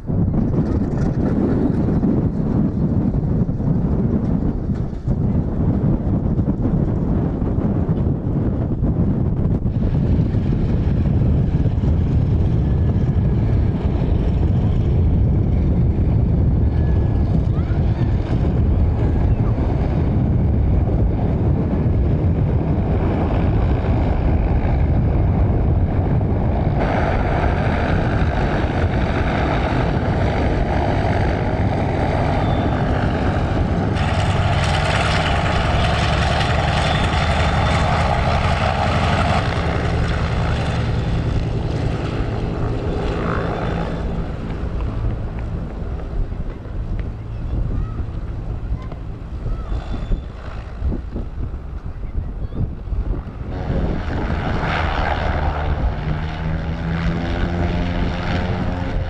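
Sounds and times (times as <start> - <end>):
radial engine and propeller rumbling: 0.0 - 59.0.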